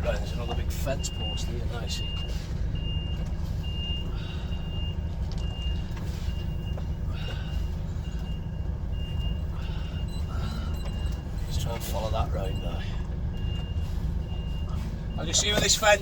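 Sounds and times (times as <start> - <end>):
diesel engine running at low revs: 0.0 - 16.0
reversing alarm beeping: 0.0 - 16.0.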